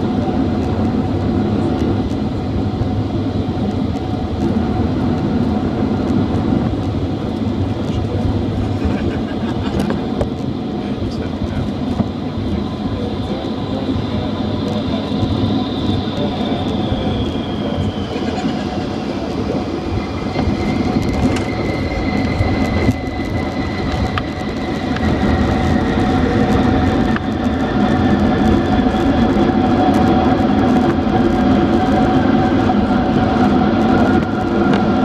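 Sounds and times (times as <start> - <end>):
jet engine whine: 0.0 - 35.0
rumble of wheels and airframe: 0.0 - 35.0.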